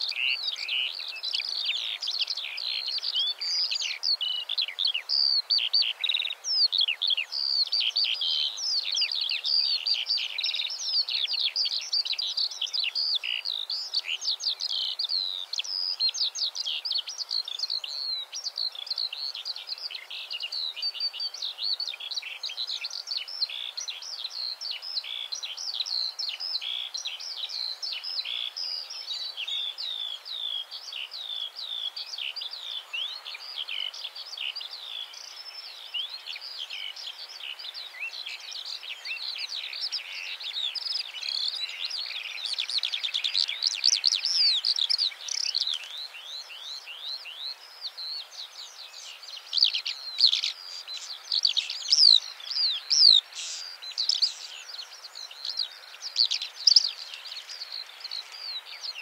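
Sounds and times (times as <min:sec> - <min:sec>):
skylark singing: 0:00.0 - 0:59.0.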